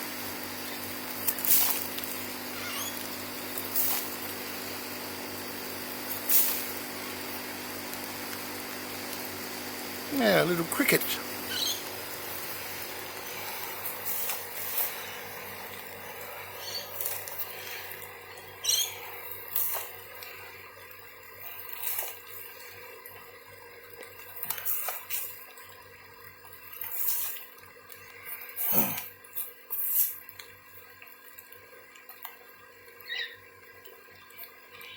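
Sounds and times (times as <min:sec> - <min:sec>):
light rain dripping: 0:00.2 - 0:34.9.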